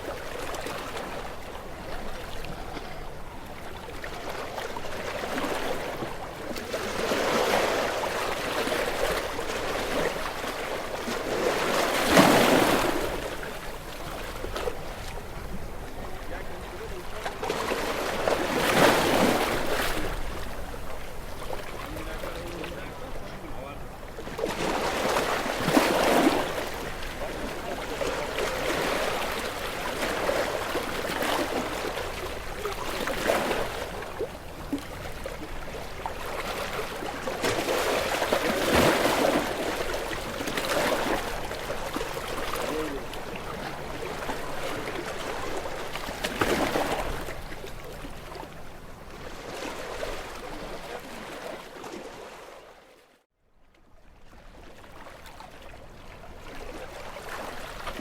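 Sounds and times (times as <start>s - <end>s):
sea waves washing against rocks: 3.1s - 52.4s.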